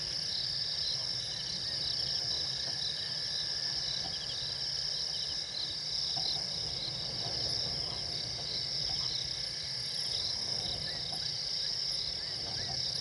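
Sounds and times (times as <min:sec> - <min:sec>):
crickets trilling: 0:00.0 - 0:13.0
insect chirping: 0:00.0 - 0:13.0.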